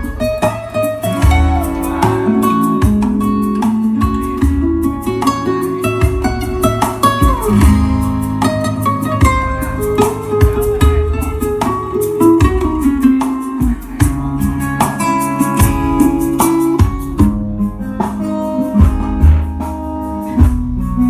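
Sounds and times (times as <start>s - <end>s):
guitar-led music over speakers: 0.0s - 21.0s.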